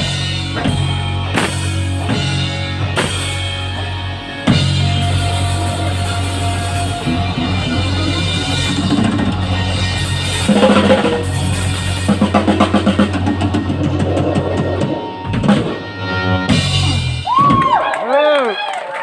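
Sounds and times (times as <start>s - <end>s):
drum hits: 0.0s - 15.8s
live rock band playing: 0.0s - 17.6s.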